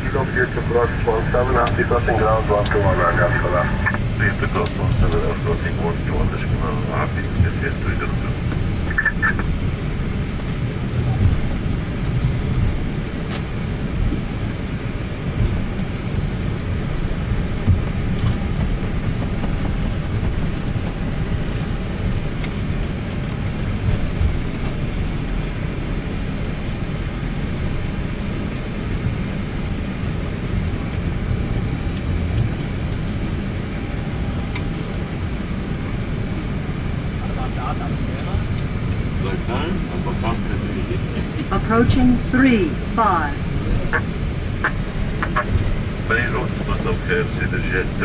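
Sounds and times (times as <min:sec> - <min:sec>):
airliner cockpit rumble: 0:00.0 - 0:48.0.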